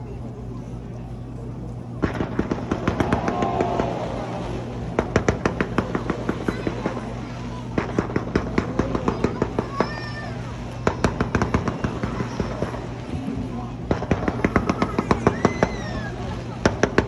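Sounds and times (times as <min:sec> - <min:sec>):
fireworks crackling pops: 0:02.0 - 0:16.0.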